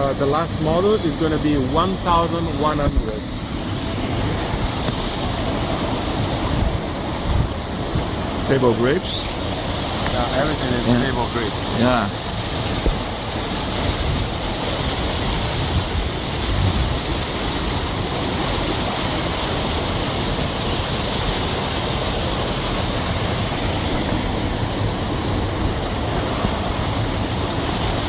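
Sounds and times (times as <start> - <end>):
water rushing through an inlet: 0.0 - 28.0.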